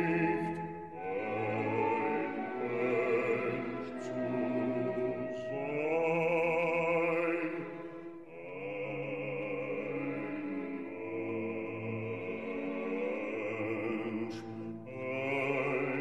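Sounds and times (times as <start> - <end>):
man singing opera: 0.0 - 16.0.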